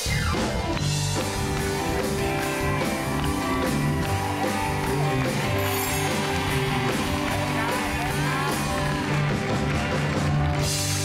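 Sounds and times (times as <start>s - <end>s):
band music with guitar: 0.0s - 11.0s.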